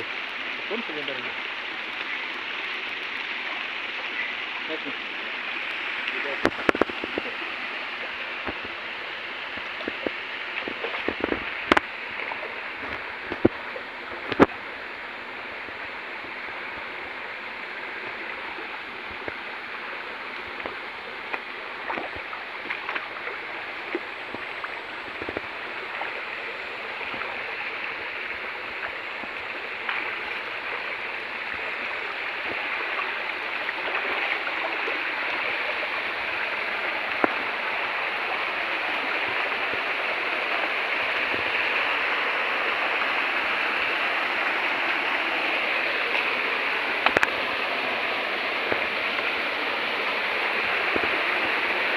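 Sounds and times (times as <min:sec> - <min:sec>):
people wading through water: 0:00.0 - 0:51.9
shallow stream rushing: 0:00.0 - 0:51.9.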